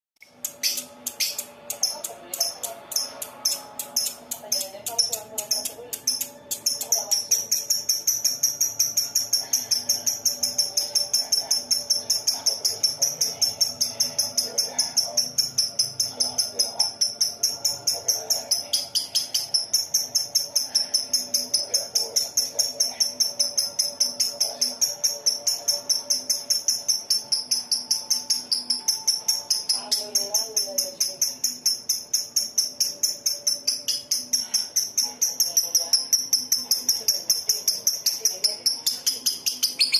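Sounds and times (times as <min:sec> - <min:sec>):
lovebird rapid high chirps: 0:00.2 - 0:39.9.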